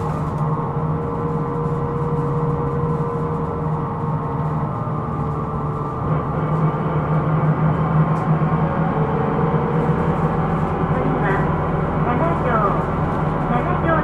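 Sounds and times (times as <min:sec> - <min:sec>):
bus engine rumble: 0:00.0 - 0:14.0
humming whine: 0:00.0 - 0:14.0.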